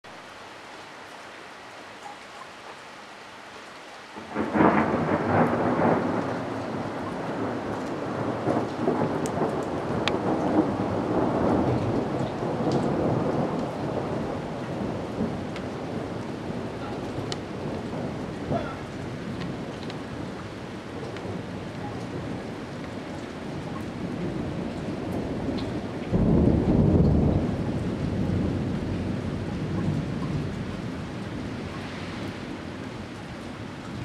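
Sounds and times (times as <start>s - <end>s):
heavy rain: 0.0s - 34.0s
thunderclap rolling: 4.2s - 34.0s.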